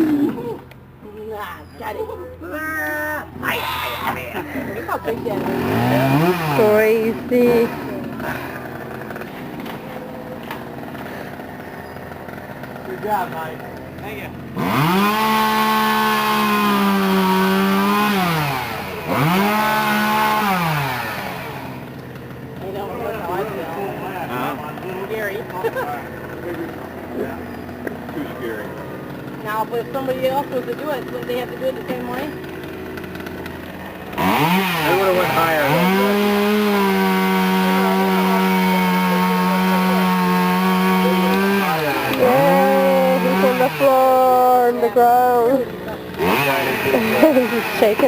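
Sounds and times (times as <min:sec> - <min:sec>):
chainsaw engine revving: 0:00.0 - 0:01.0, 0:03.3 - 0:48.0.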